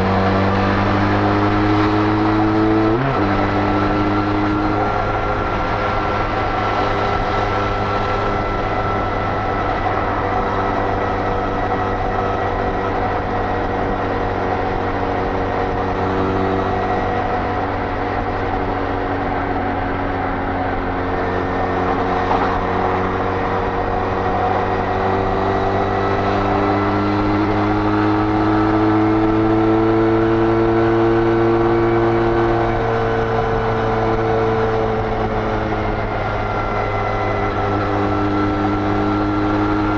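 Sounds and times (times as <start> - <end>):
motorcycle engine at high speed: 0.0 - 39.9.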